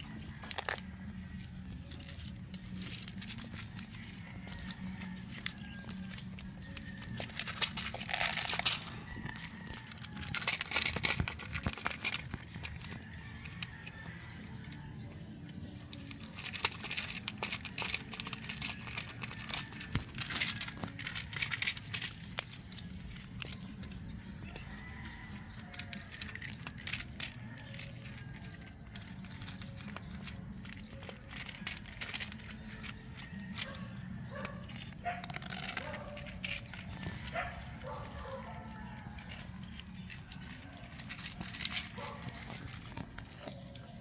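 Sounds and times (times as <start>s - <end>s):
cat crunching dry kibble: 0.0s - 44.0s.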